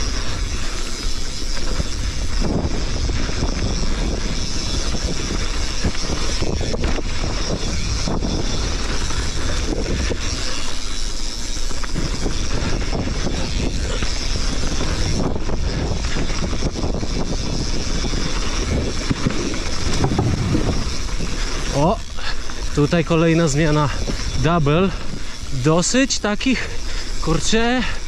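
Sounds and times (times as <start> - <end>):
bike rolling over dirt: 0.0 - 28.0
wind rush on microphone: 0.0 - 28.0.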